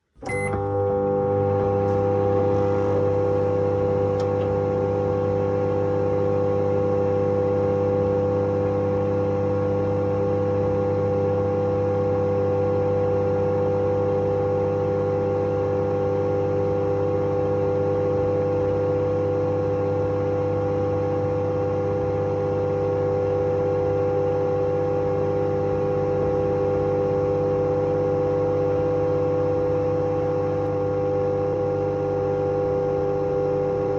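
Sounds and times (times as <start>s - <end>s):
microwave oven humming: 0.1s - 33.9s.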